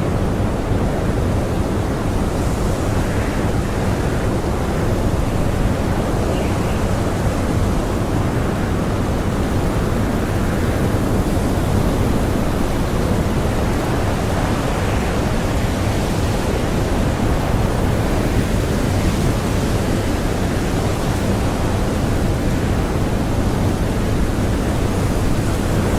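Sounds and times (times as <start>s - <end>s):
blizzard wind blowing: 0.0s - 25.9s.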